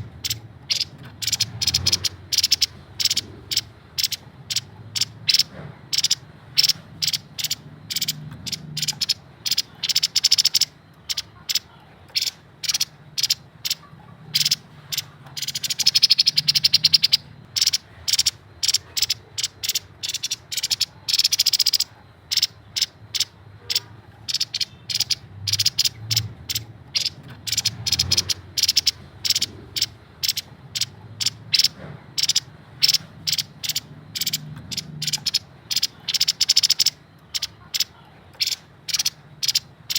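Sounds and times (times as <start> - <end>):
babbler calling sharp notes: 0.0 - 39.9
bird chattering runs: 0.0 - 39.9.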